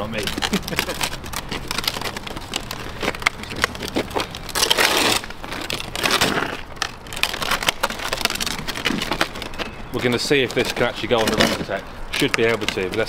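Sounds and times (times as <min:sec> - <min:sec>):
drum crunching over tarmac: 0:00.0 - 0:13.0.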